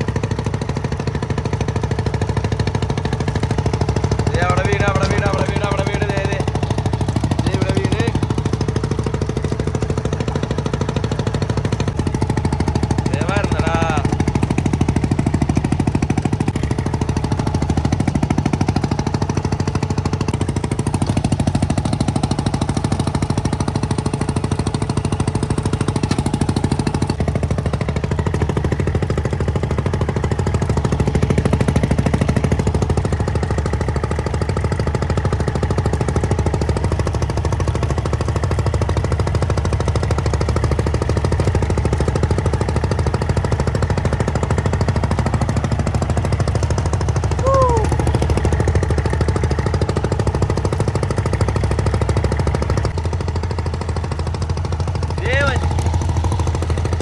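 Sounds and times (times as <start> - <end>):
boat engine knocking and rumbling: 0.0 - 57.0.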